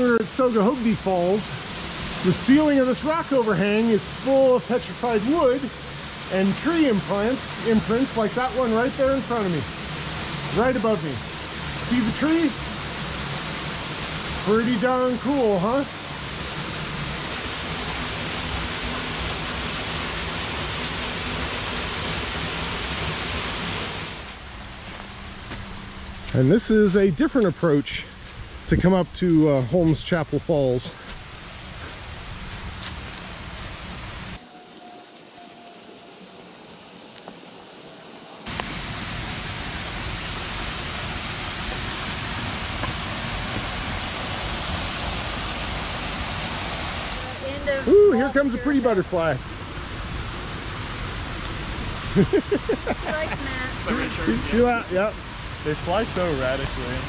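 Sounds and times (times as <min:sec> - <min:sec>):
waterfall hiss: 0:00.0 - 0:57.0.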